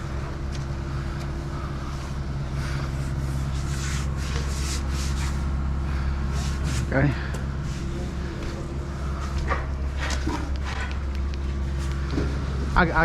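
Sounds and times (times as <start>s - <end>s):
diesel machinery droning: 0.0s - 13.0s.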